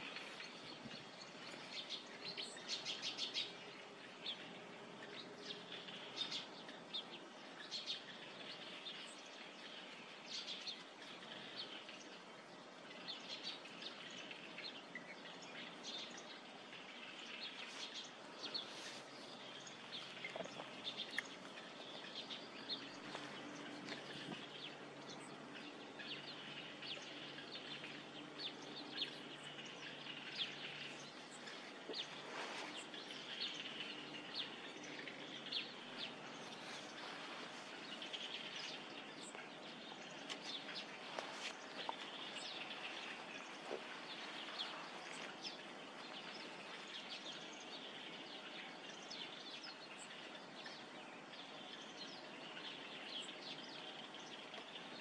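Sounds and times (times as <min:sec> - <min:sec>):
open-air background hiss: 0:00.0 - 0:55.0.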